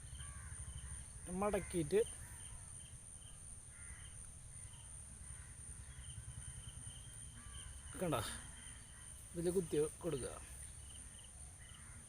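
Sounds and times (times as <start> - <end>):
faint bird call: 0.0 - 9.9
crickets trilling: 0.0 - 12.0.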